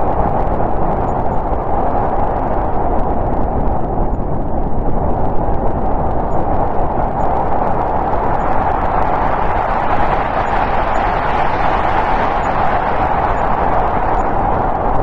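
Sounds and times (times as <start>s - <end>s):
howling snowstorm wind: 0.0s - 15.0s.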